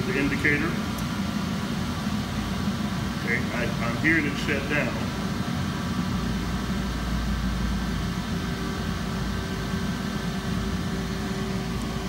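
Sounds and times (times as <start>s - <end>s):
blower fan humming: 0.0s - 12.0s.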